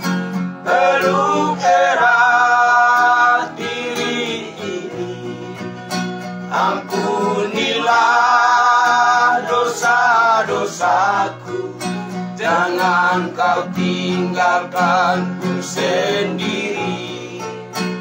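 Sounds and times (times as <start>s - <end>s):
guitar accompaniment: 0.0s - 18.0s
men singing together: 0.6s - 18.0s.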